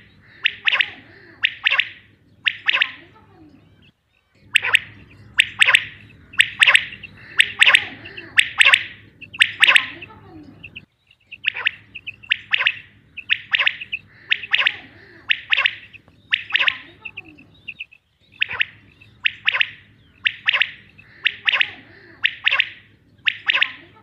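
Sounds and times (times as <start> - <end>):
quail three-note call: 4.5 - 24.0.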